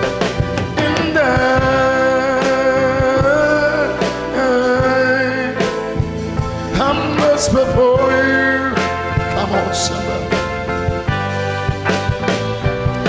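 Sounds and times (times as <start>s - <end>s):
electronic keyboard: 0.0s - 13.0s
steady drum beat: 0.0s - 13.0s.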